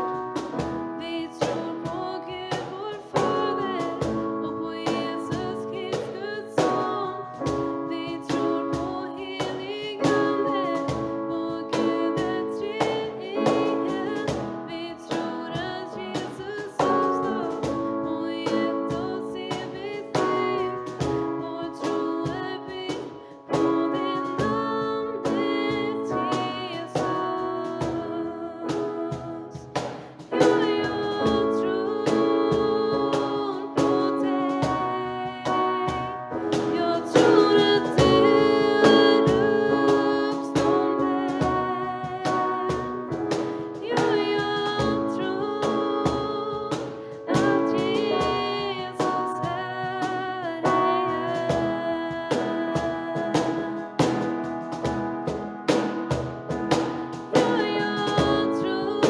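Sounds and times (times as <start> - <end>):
woman singing: 0.0 - 55.8, 56.5 - 59.0
cajon played by hand: 0.0 - 59.0
digital piano: 0.0 - 59.0.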